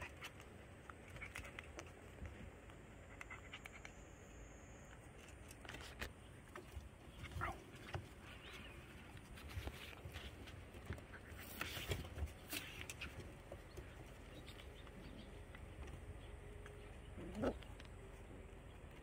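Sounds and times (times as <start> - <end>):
paws scratching on wooden boards: 0.0 - 4.0, 5.1 - 19.0.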